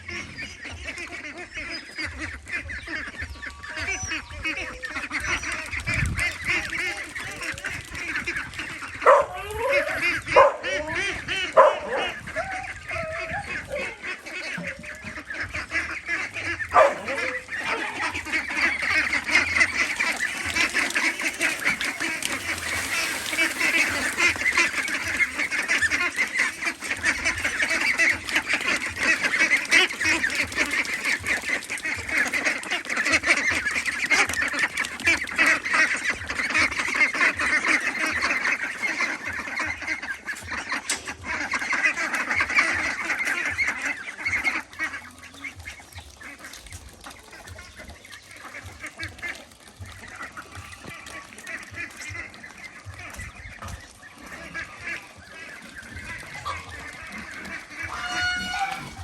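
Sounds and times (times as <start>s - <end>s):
flock of ducks quacking: 0.0s - 59.0s.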